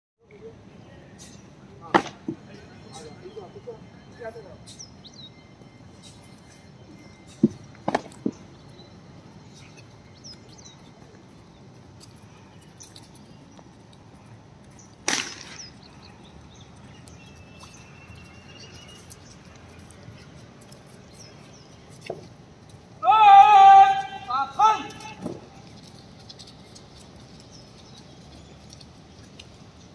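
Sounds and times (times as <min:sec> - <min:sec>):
outdoor background noise: 0:00.2 - 0:29.9.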